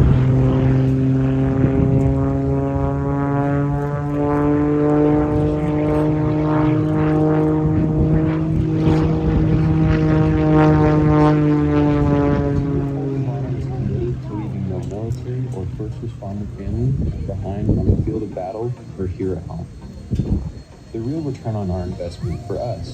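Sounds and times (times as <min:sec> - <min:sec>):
propeller engine droning: 0:00.0 - 0:22.9.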